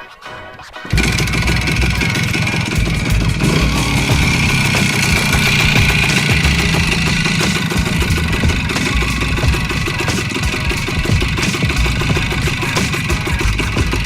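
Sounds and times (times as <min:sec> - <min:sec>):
two-stroke motorcycle engine: 0:00.9 - 0:14.0.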